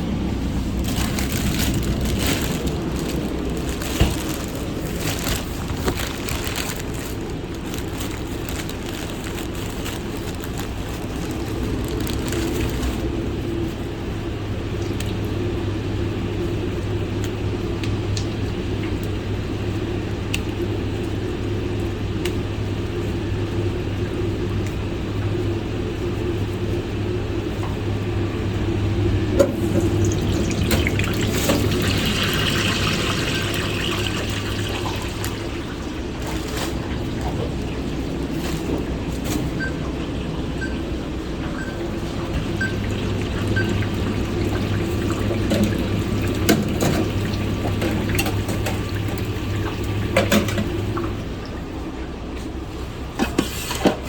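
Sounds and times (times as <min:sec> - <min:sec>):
kitchen equipment drone: 0:00.0 - 0:17.0, 0:26.8 - 0:54.0.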